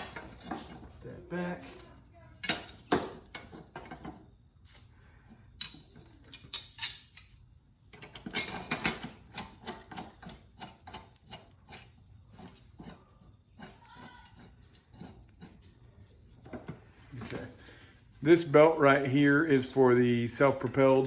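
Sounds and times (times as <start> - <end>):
metal clinks and knocks: 0.0 - 4.8, 5.4 - 15.7, 19.2 - 21.0.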